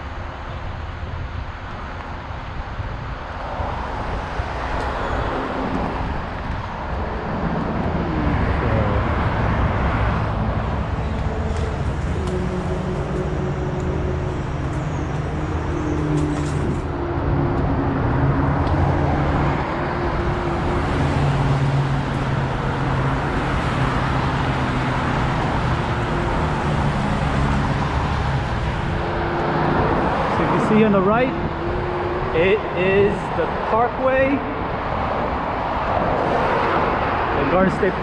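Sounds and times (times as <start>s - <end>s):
low engine hum: 0.0s - 37.3s
tyres rushing on highway: 0.0s - 38.0s.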